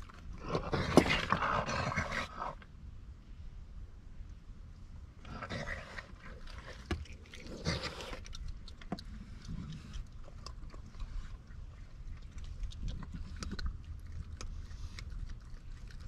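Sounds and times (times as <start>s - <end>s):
raccoons crunching food: 0.0s - 2.7s, 5.2s - 16.0s.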